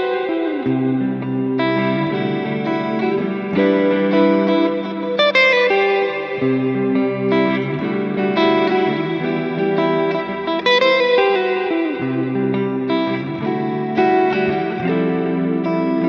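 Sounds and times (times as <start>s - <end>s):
clean electric guitar chords: 0.0s - 16.0s.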